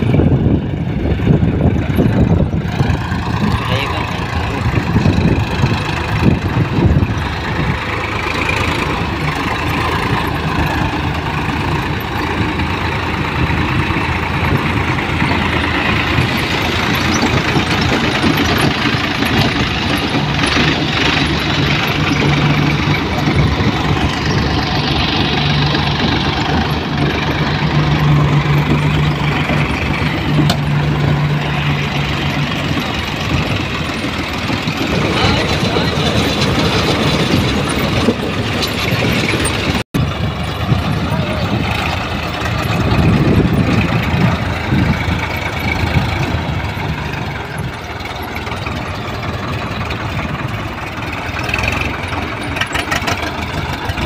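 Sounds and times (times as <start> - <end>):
conveyor lifting soil and straw: 0.0 - 54.0
tractor diesel engine running: 0.0 - 54.0.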